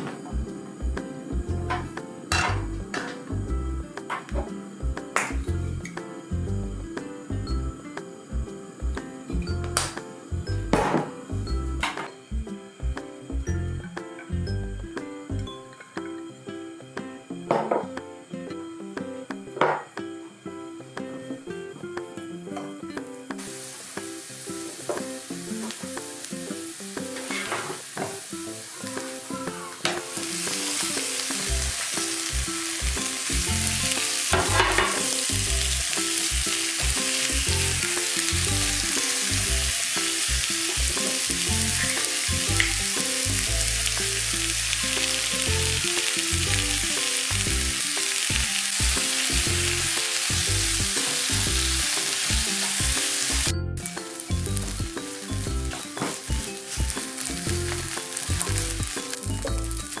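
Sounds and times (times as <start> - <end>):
food sizzling in a frying pan: 0.0 - 60.0
low background music: 0.0 - 60.0.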